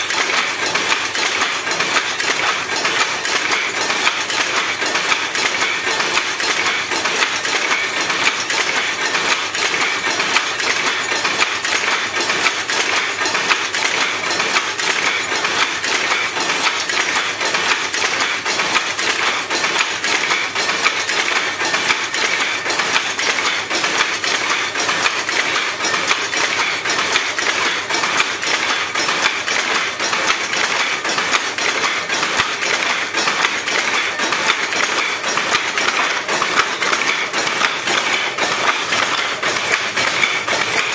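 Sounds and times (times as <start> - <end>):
loom metallic clatter: 0.0 - 40.9.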